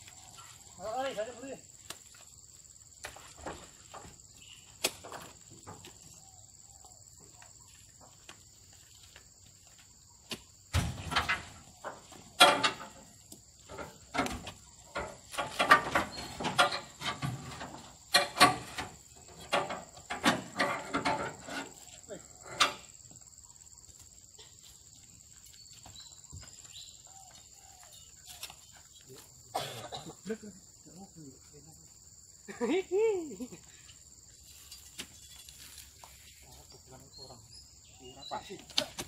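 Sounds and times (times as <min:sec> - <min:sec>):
high insect drone: 0:00.0 - 0:39.0.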